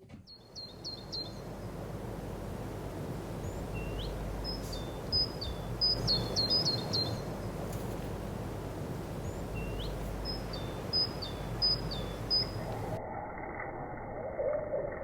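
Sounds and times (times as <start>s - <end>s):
small birds chirping: 0.2s - 13.0s
low background rumble: 0.3s - 13.0s.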